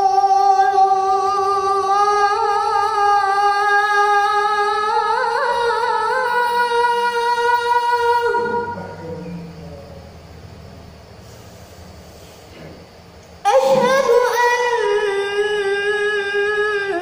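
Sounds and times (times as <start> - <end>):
boy chanting call to prayer: 0.0 - 11.2, 12.5 - 17.0.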